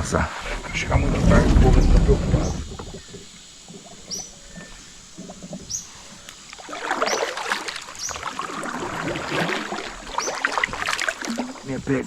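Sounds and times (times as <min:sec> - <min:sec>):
water splashing and dripping: 0:00.4 - 0:11.8.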